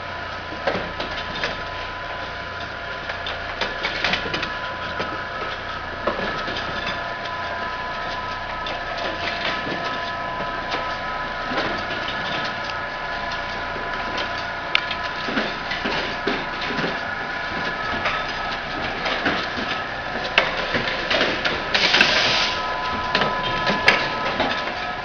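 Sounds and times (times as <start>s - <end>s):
machine humming: 0.0s - 25.0s
high whining tones: 3.6s - 25.0s.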